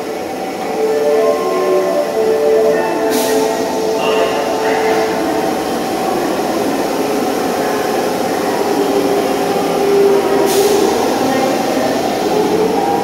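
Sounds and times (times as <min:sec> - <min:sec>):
subway train running: 0:00.0 - 0:13.0.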